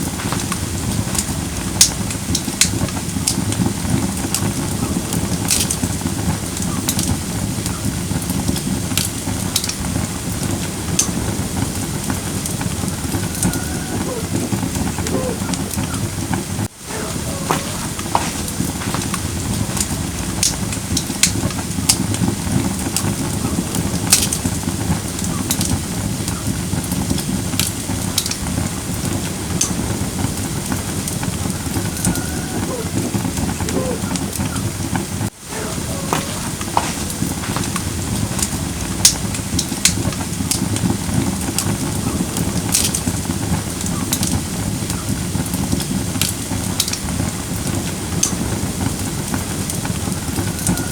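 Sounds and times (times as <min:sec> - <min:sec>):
fire burning with crackles: 0:00.0 - 0:50.9.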